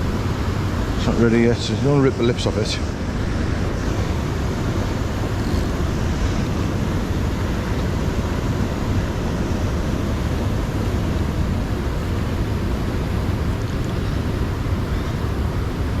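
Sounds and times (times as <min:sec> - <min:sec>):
river water rushing: 0:00.0 - 0:16.0
wind buffeting microphone: 0:00.0 - 0:16.0.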